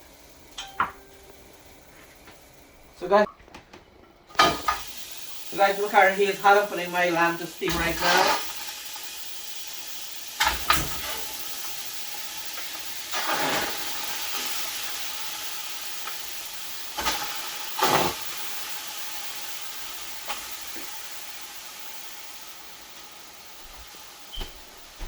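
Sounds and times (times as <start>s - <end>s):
meat sizzling in curry: 4.3s - 25.0s.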